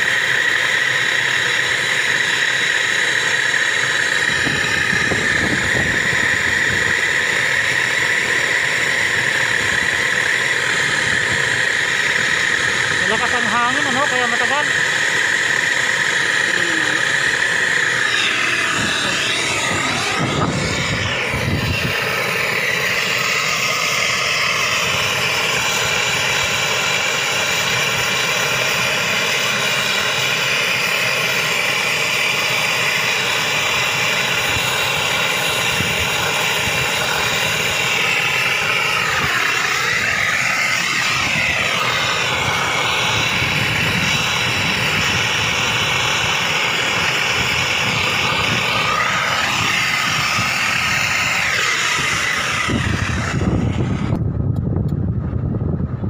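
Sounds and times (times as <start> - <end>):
brazing torch flame rushing: 0.0 - 56.0.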